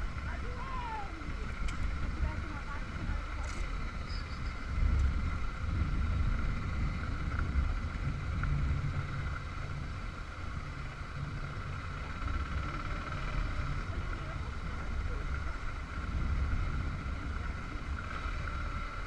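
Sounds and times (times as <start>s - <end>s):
motorcycle engine rumble: 0.0s - 19.0s
wind noise on microphone: 0.0s - 19.0s.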